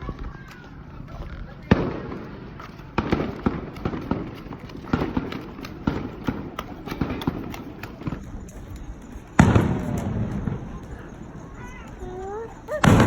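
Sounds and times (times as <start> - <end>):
fireworks bangs and pops: 0.0 - 11.6, 12.7 - 13.0.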